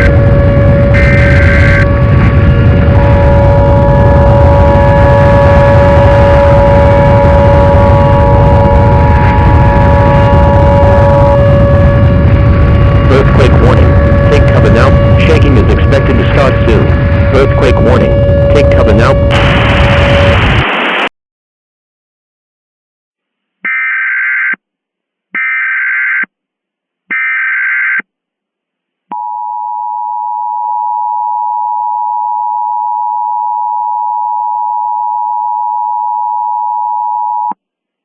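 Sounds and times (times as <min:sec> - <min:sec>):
two-tone alarm: 0:00.0 - 0:20.6, 0:23.7 - 0:24.6, 0:25.4 - 0:26.3, 0:27.1 - 0:28.0, 0:29.1 - 0:37.6.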